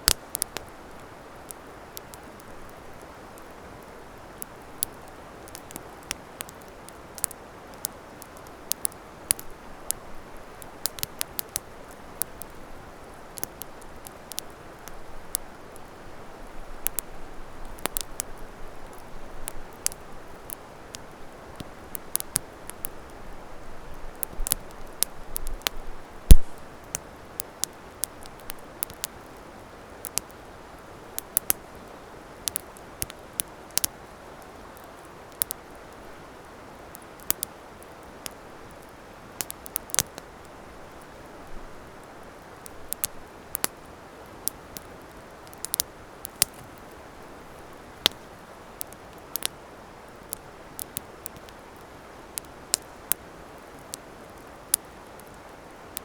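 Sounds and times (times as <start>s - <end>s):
fire snapping and popping: 0.0s - 30.5s, 31.1s - 31.8s, 32.4s - 36.0s, 36.8s - 42.0s, 42.6s - 56.0s
soft steady fire hiss: 0.0s - 56.0s.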